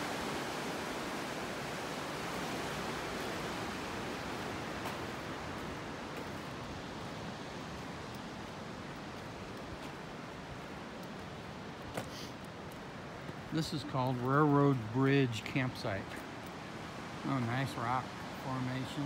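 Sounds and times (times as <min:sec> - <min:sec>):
rushing whitewater: 0:00.0 - 0:19.0.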